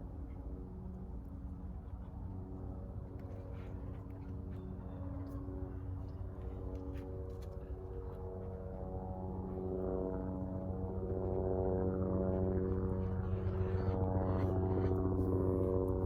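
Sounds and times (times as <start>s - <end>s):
engine drone: 0.1s - 16.0s.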